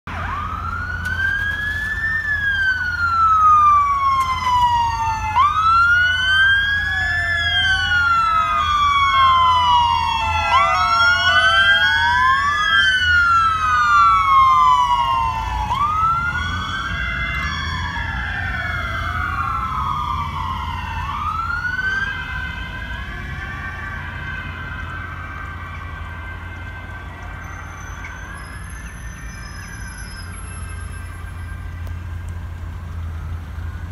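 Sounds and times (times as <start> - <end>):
emergency sirens wailing: 0.0 - 33.9
low traffic rumble: 0.0 - 33.9.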